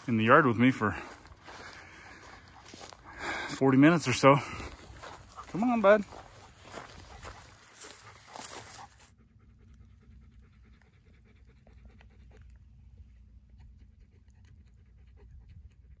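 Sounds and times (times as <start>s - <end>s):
dog panting hard: 0.2s - 3.4s, 4.4s - 16.0s.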